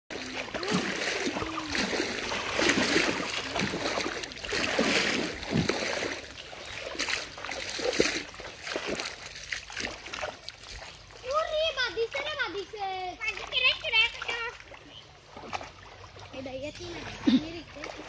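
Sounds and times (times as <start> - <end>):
pond water splashing: 0.1 - 18.0.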